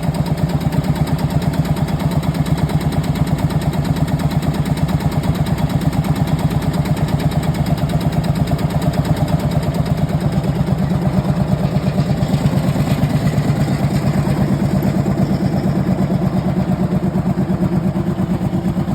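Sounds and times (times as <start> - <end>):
diesel tractor engine thumping idle: 0.0 - 18.9.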